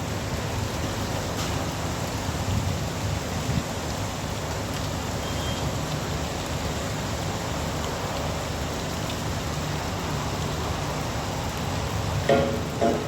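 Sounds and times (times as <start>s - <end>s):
heavy rain hiss: 0.0s - 13.0s.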